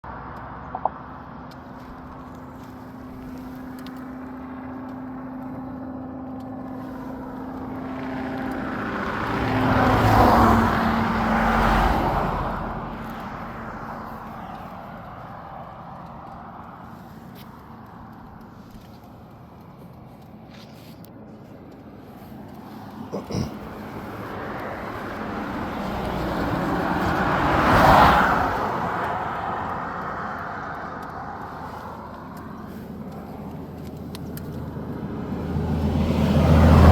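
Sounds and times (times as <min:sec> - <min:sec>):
motorcycle passing by: 0:01.4 - 0:18.8, 0:22.0 - 0:36.9.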